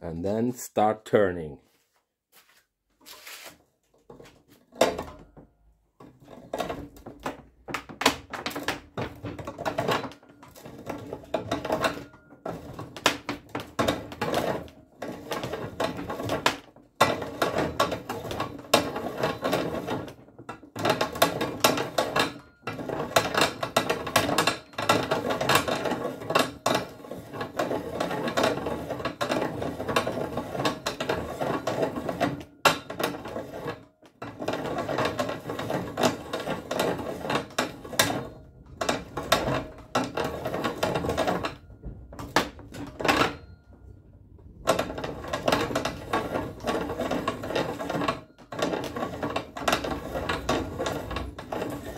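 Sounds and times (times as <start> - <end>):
reamer scraping in metal barrel: 9.0 - 51.9.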